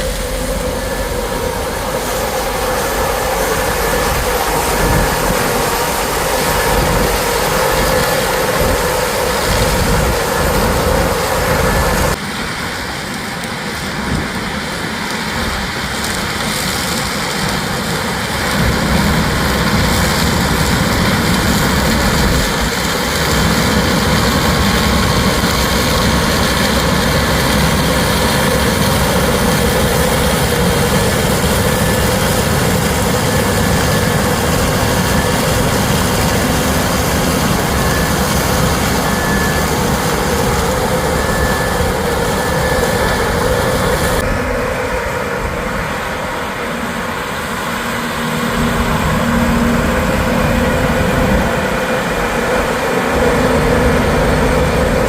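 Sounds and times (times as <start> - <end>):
heavy machinery engine running: 0.0 - 55.0.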